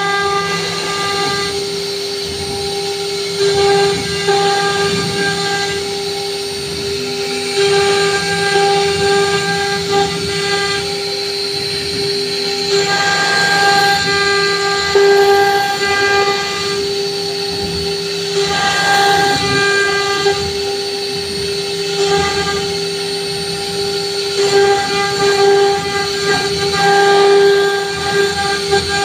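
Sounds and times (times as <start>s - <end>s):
router spindle high whine: 0.0s - 29.0s.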